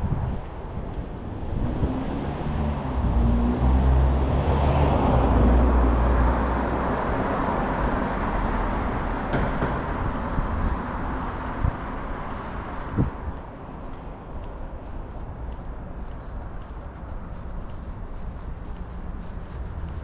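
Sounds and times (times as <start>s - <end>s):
vehicle passing: 0.0s - 20.0s.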